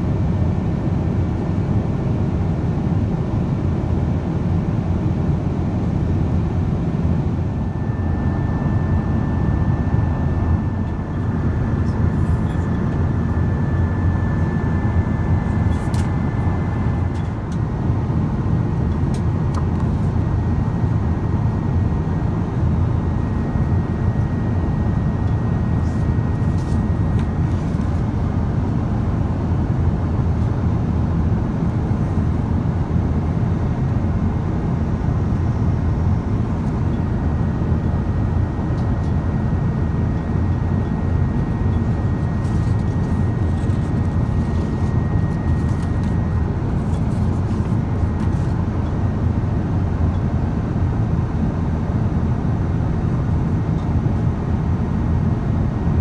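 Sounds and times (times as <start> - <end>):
airplane cabin rumble: 2.9 - 56.0.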